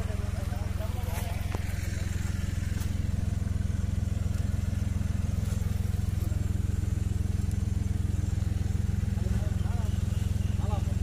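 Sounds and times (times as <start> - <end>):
tractor diesel engine chugging: 0.0 - 11.0.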